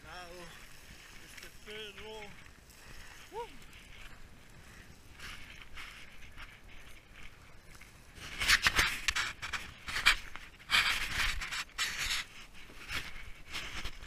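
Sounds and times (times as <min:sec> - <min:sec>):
footsteps crunching on gravel: 0:00.0 - 0:14.0.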